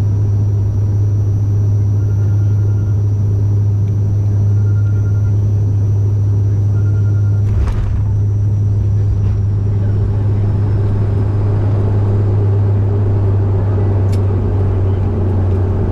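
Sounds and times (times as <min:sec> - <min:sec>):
turboprop engine cabin drone: 0:00.0 - 0:15.9.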